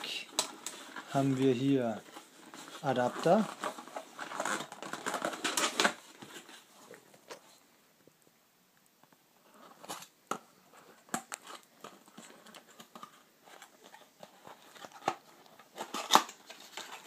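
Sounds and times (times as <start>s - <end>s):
packaging crinkling and rustling: 0.0s - 7.6s, 9.5s - 17.0s.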